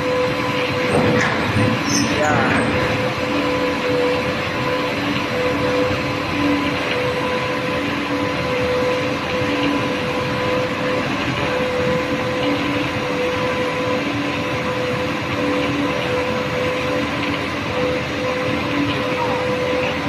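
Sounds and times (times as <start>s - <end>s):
concrete mixer running: 0.0s - 20.0s.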